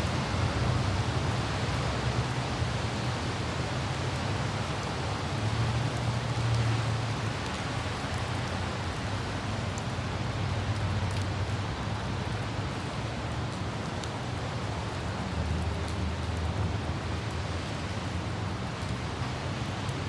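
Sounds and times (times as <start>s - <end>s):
raindrops ticking: 0.0s - 20.0s.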